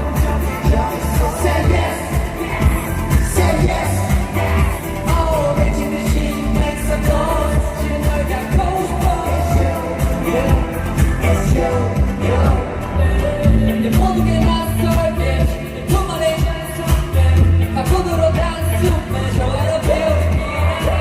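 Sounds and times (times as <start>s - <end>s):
backing track with heavy bass beat: 0.0s - 21.0s
man singing: 0.0s - 21.0s.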